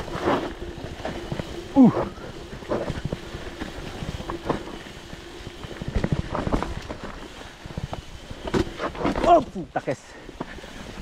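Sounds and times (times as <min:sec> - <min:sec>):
mountain bike rattling: 0:00.0 - 0:11.0.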